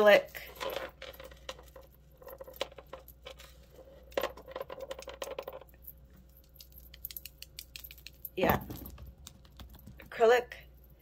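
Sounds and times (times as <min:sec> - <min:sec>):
necklace beads clicking and jingling: 0:00.4 - 0:11.0.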